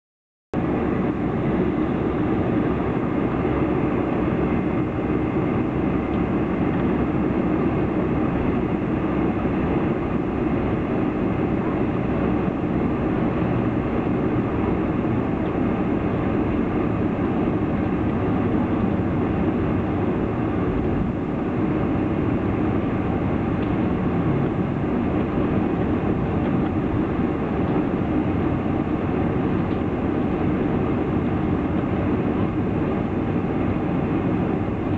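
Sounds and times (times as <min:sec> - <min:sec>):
airplane cabin noise: 0:00.6 - 0:34.9
jet engines at low power: 0:00.6 - 0:34.9.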